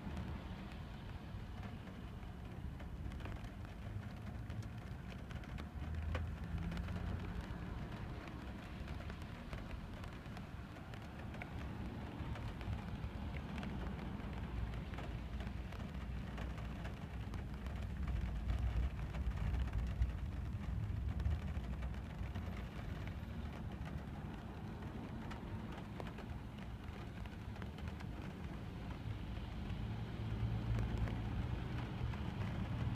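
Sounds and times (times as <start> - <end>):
car rumbling on wet road: 0.0 - 32.9
rain drops ticking on windscreen: 0.0 - 32.9.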